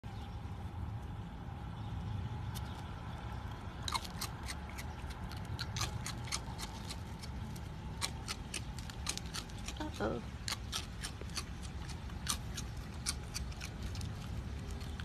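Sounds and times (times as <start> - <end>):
raccoon crunching cereal: 2.6 - 15.0.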